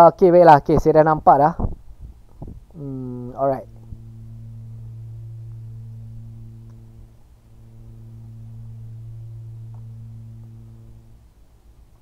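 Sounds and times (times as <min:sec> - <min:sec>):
low-pitched hum: 0:01.7 - 0:12.0.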